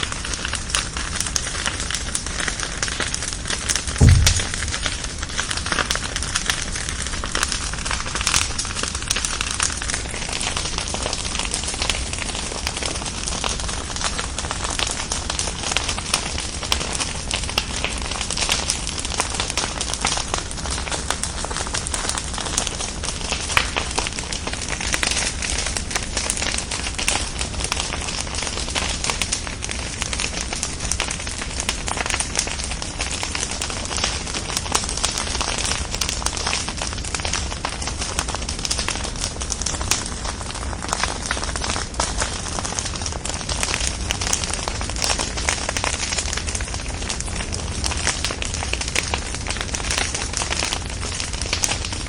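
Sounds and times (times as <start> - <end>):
bonfire crackling and popping: 0.0 - 52.0.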